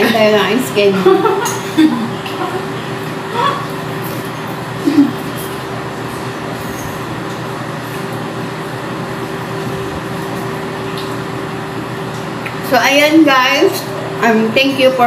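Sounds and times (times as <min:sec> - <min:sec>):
steady background hum and hiss: 0:00.0 - 0:15.0.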